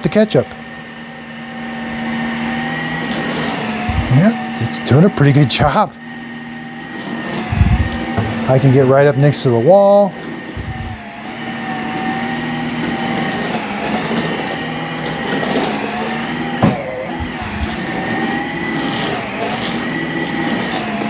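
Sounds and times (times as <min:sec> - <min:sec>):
vacuum motor whine: 0:00.0 - 0:21.0.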